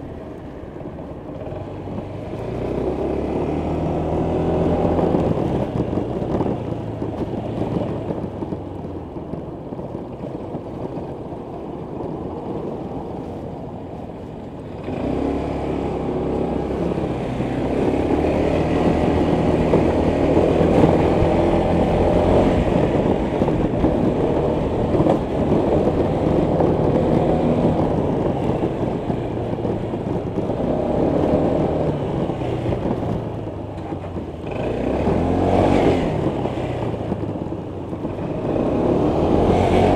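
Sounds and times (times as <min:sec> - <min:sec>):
scooter engine running: 0:00.0 - 0:39.9
wind rush on microphone: 0:00.0 - 0:39.9.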